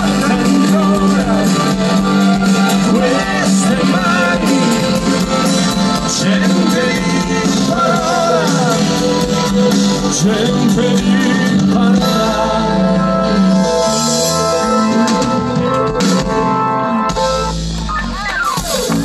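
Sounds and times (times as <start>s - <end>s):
wavering lead melody: 0.0s - 18.6s
live rock band playing: 0.0s - 19.0s.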